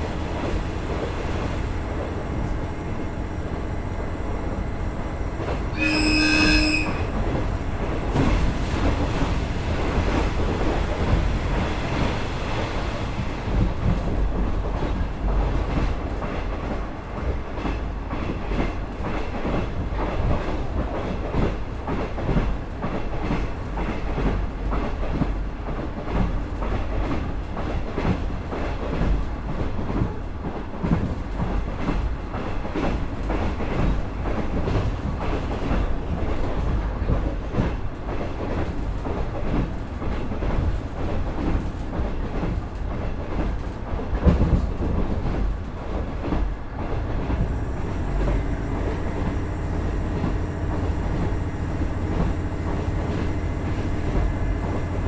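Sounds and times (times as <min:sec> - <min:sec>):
diesel railcar rumble: 0:00.0 - 0:55.0.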